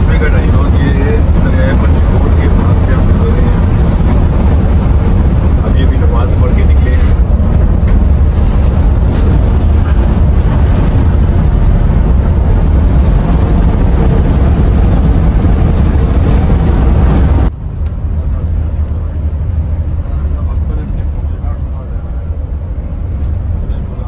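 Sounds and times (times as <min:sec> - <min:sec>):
bus engine and tyres rumbling: 0:00.0 - 0:24.0.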